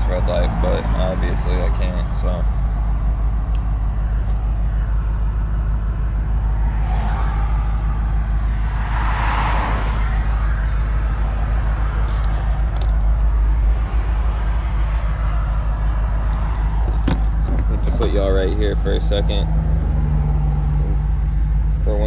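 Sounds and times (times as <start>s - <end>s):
vehicle passing by: 0.0s - 21.8s
car engine idling: 0.0s - 22.0s.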